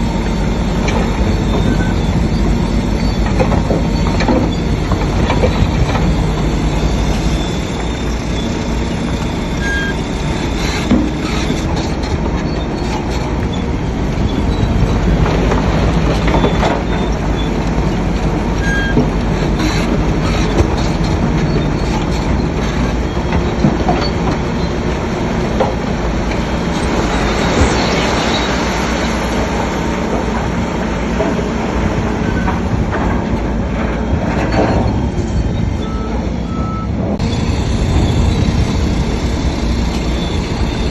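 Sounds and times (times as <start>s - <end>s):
diesel engine rumble: 0.0s - 40.9s
steel tracks clanking and squealing: 0.0s - 40.9s.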